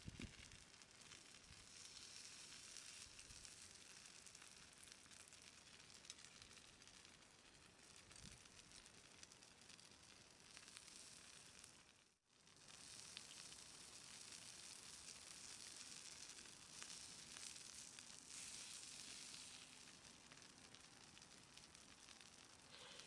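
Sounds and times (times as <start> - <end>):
food sizzling on griddle: 0.0 - 23.0.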